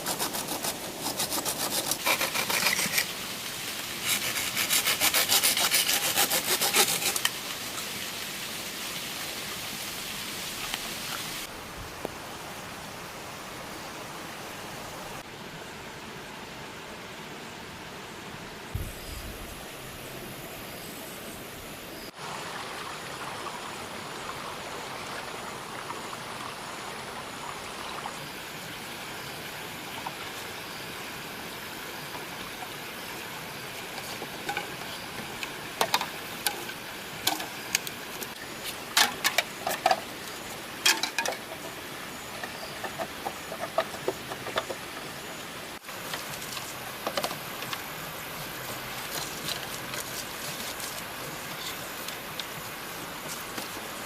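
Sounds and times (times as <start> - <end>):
outdoor hiss: 0.0 - 54.0.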